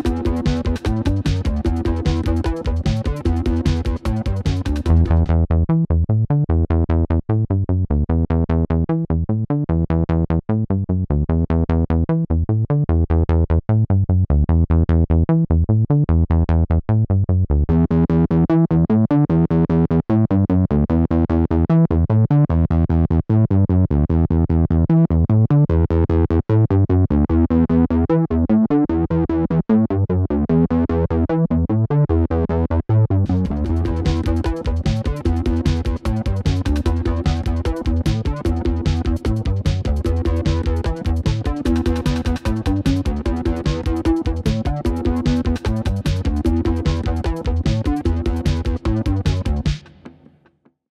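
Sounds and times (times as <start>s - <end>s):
synth bassline: 0.0s - 49.8s.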